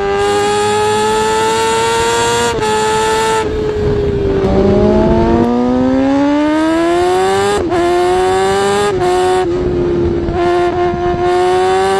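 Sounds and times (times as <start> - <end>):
two-stroke motorcycle engine revving: 0.0 - 11.9.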